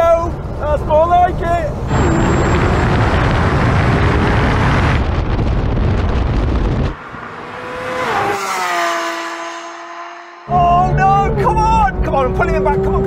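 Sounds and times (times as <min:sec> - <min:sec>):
sports car engine accelerating: 0:01.8 - 0:13.0.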